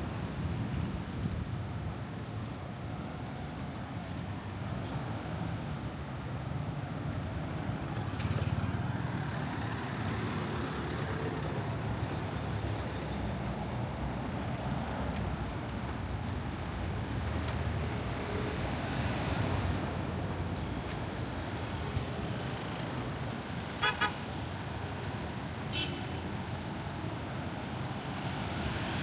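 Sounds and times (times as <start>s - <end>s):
cars passing: 5.2s - 29.0s.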